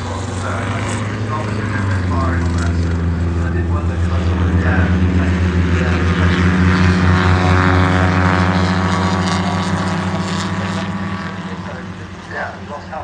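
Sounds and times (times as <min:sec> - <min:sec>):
racing car engine running: 0:00.0 - 0:13.0.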